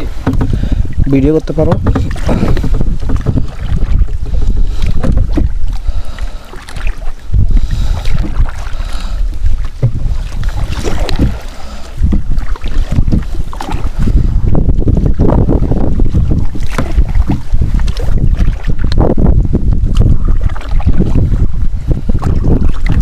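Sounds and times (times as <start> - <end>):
kayak paddling water: 0.0 - 23.0
wind rumbling on microphone: 0.0 - 23.0.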